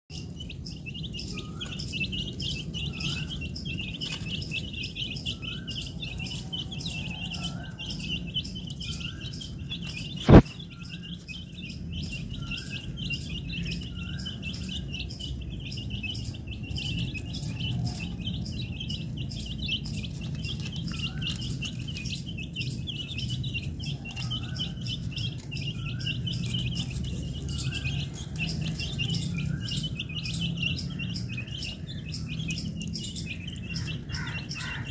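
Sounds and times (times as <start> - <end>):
chicks chirping: 0.1 - 34.9.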